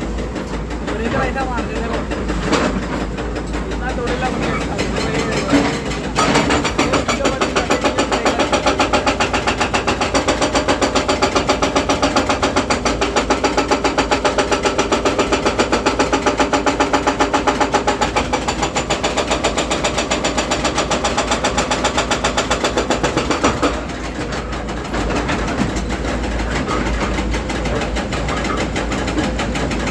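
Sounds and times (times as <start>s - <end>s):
hydraulic hammer pounding: 0.0s - 29.9s.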